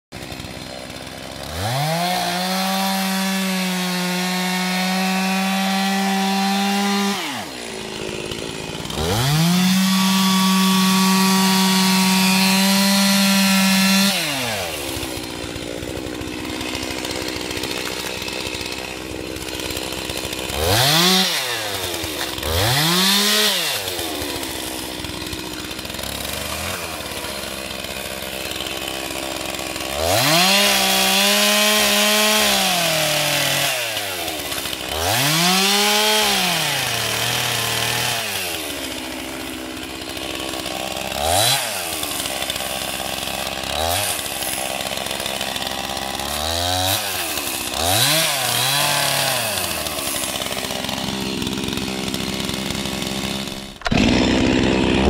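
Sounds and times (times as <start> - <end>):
chainsaw cutting log: 0.1 - 55.0.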